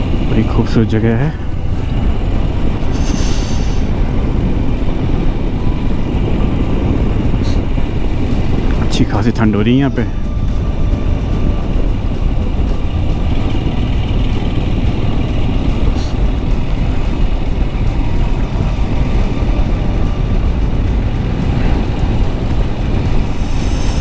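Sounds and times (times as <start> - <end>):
motorcycle engine rumble: 0.0 - 24.0.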